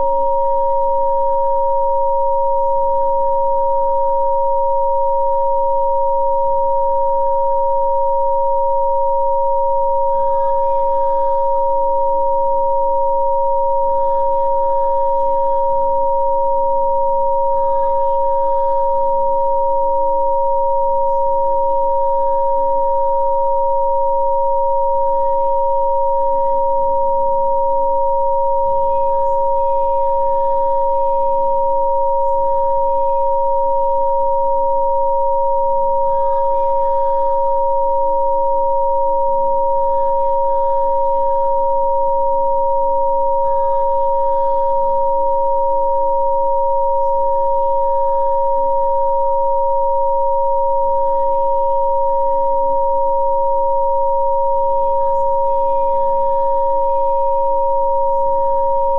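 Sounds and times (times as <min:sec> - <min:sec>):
two steady sine tones: 0:00.0 - 0:58.9.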